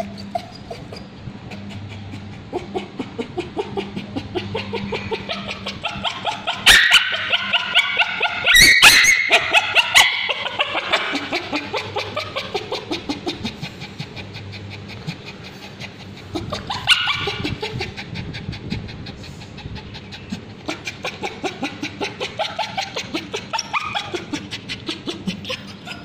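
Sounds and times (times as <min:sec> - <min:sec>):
dog yelping: 0:00.0 - 0:18.3, 0:19.9 - 0:26.0.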